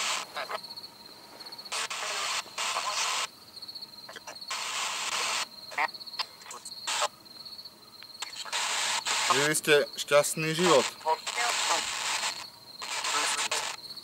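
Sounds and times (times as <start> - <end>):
radio static bursts: 0.0 - 0.7, 1.7 - 3.3, 4.1 - 7.2, 8.2 - 14.0.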